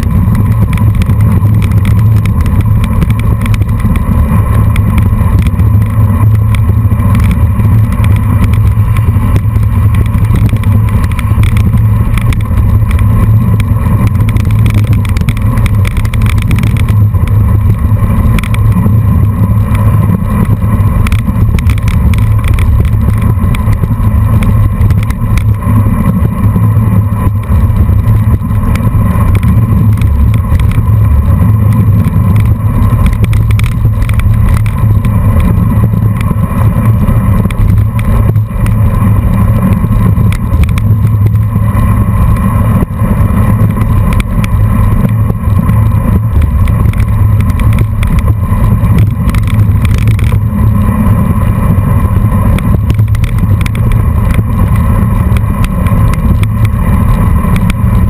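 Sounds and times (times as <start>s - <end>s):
bike tyres on gravel: 0.0s - 58.0s
wind buffeting microphone: 0.0s - 58.0s.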